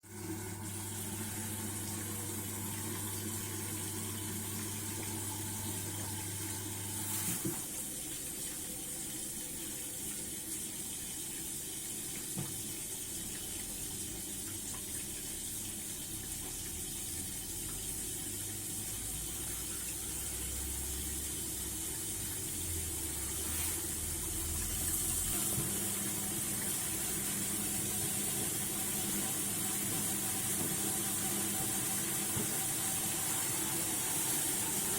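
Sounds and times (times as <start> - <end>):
water filling washing machine drum: 0.0 - 34.9.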